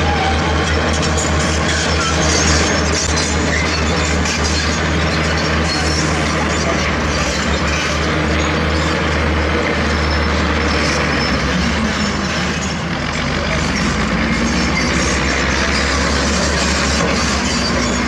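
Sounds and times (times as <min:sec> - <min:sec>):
diesel machinery engine drone: 0:00.0 - 0:18.0.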